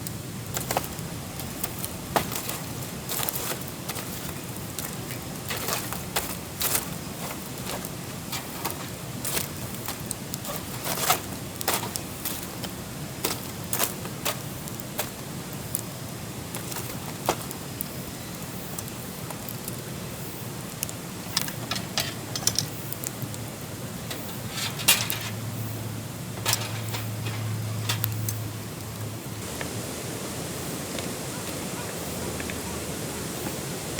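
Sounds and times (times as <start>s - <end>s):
campfire crackling and popping: 0.0s - 33.9s
steady hiss: 0.0s - 33.9s.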